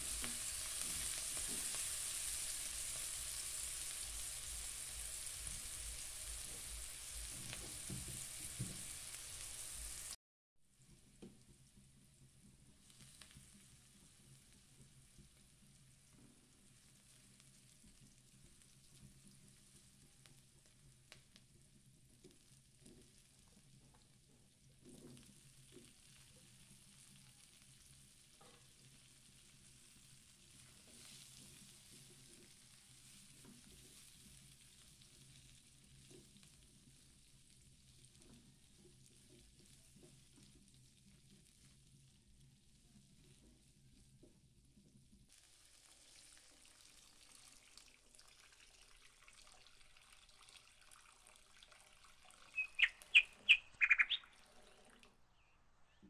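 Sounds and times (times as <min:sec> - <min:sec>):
garlic and onion sizzling in oil: 0:00.0 - 0:10.2, 0:10.8 - 0:50.8, 0:51.4 - 0:54.3.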